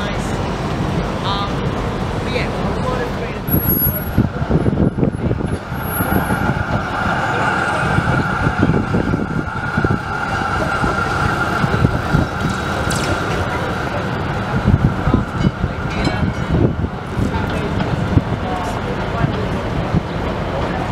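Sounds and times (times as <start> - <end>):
high-pitched tram whine: 0.0 - 20.9
low traffic rumble: 0.0 - 20.9.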